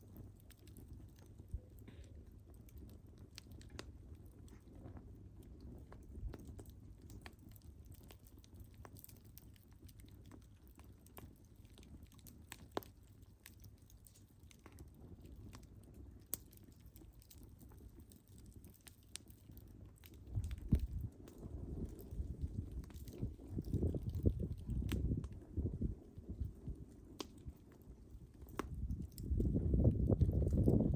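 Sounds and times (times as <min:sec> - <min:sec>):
burning logs popping and snapping: 0:00.0 - 0:30.9
low rumble of flames: 0:00.0 - 0:30.9.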